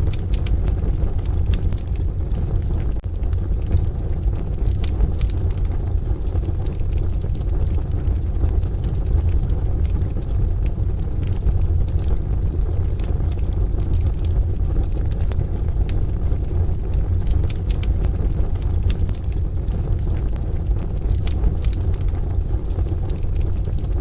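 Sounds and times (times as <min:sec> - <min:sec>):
deep rumble: 0:00.0 - 0:24.0
wood fire crackling and popping: 0:00.0 - 0:24.0.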